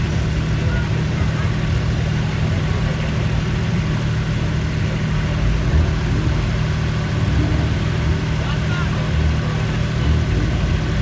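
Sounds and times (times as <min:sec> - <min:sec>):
off-road vehicle engine rumbling: 0:00.0 - 0:11.0.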